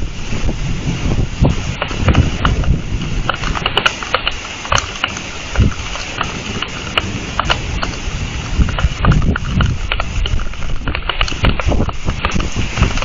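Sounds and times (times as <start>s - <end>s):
raindrops tapping on microphone: 0.0s - 13.0s
wind buffeting microphone: 0.0s - 13.0s.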